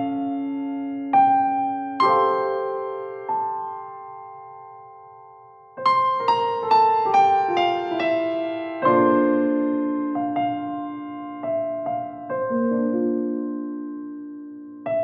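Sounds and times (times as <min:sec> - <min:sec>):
solo piano: 0:00.0 - 0:15.0.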